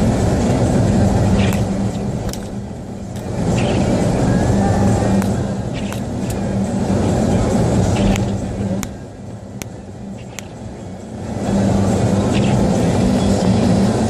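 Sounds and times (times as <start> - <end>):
car engine and tyres on snow: 0.0 - 14.0.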